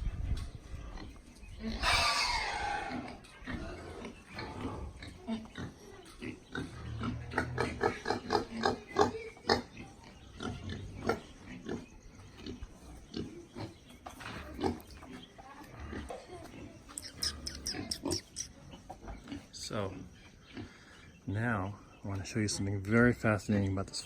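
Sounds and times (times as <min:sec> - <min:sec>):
pigs grunting: 0:00.8 - 0:21.2.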